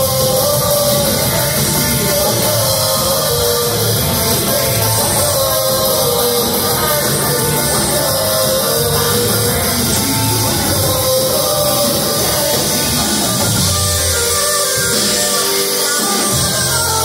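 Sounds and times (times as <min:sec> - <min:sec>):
bass guitar: 0:00.0 - 0:17.0
drums: 0:00.0 - 0:17.0
electric guitar: 0:00.0 - 0:17.0
vocals sung into microphones: 0:00.0 - 0:17.0.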